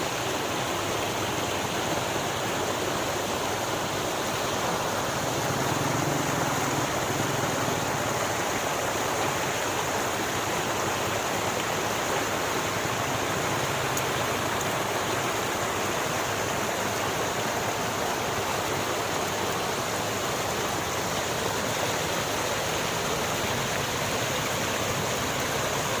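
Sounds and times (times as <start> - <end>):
river water flowing over rocks: 0.0 - 26.0.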